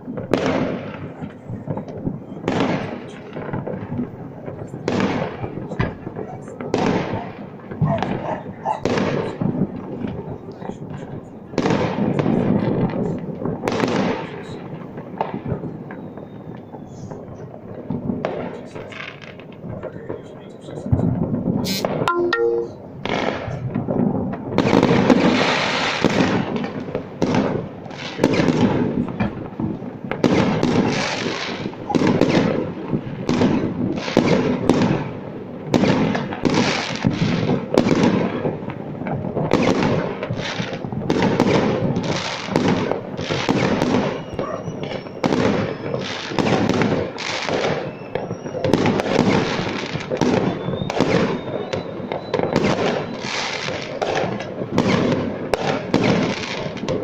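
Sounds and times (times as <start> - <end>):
fireworks booming: 0.0 - 57.0
fireworks crackling pops: 0.0 - 57.0.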